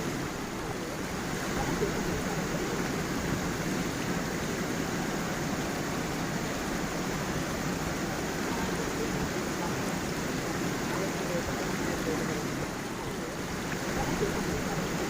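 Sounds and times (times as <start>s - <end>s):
waterfall and stream rushing: 0.0s - 15.0s.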